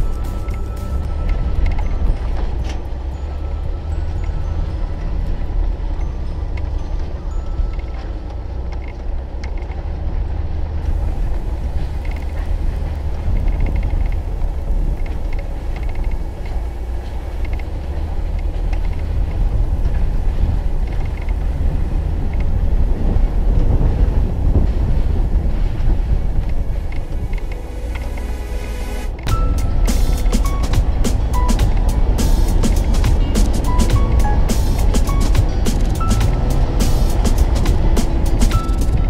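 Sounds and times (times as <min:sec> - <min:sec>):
vehicle body rattling: 0:00.0 - 0:28.1, 0:29.2 - 0:39.0
off-road vehicle engine rumbling: 0:00.0 - 0:39.0.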